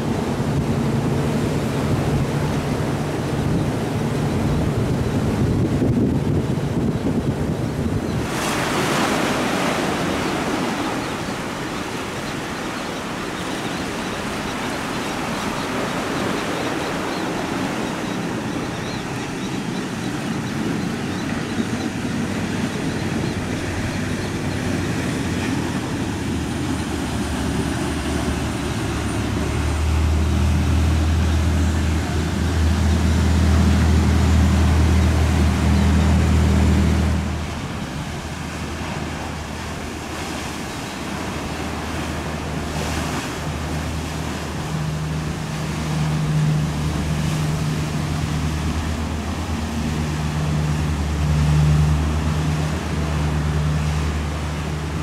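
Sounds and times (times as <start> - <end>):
boat engines droning: 0.0 - 55.0
water splashing against boats: 0.0 - 55.0
wind: 0.0 - 55.0.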